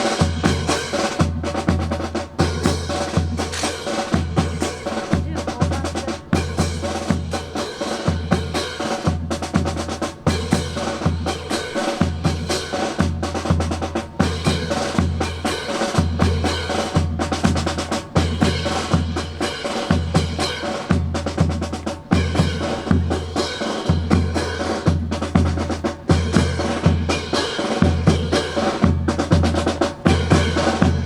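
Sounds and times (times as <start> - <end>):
bass drum beat: 0.0 - 31.0
snare drum rolls and rimshots: 0.0 - 31.0.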